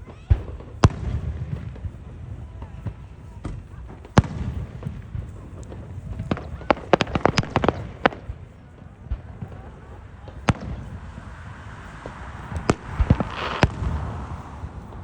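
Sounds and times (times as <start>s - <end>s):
crackling firework pops: 0.0s - 15.0s
firework bang: 0.0s - 15.0s.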